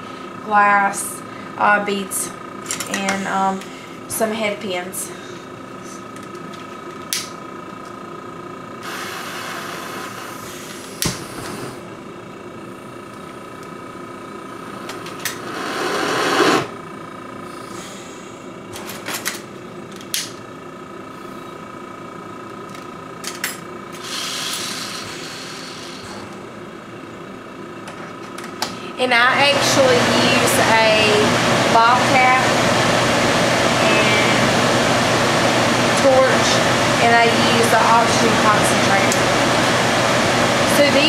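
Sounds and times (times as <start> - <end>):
oxygen concentrator humming: 0.0 - 41.0.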